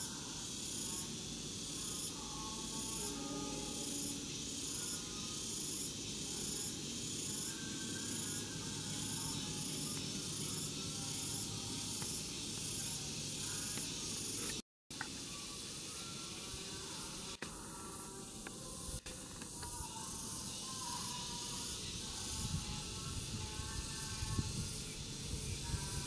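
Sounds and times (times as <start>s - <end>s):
insect chorus pulsing hiss: 0.0s - 26.0s.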